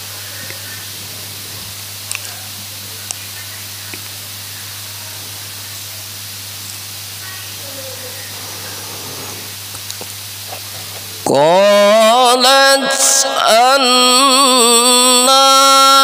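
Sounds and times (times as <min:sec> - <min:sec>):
recording hiss: 0:00.0 - 0:16.0.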